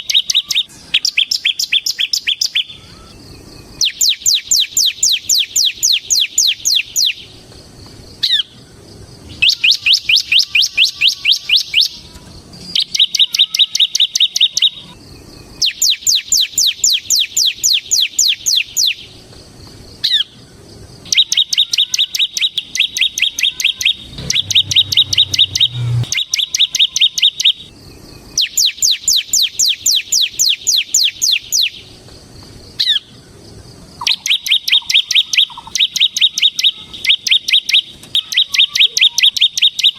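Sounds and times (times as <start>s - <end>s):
bird singing chirps and buzzy trills: 0.0s - 39.9s.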